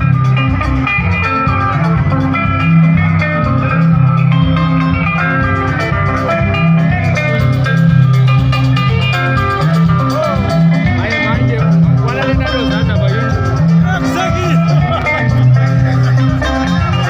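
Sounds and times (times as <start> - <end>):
bass guitar: 0.0 - 17.0
drums: 0.0 - 17.0
electric guitar lines: 0.0 - 17.0.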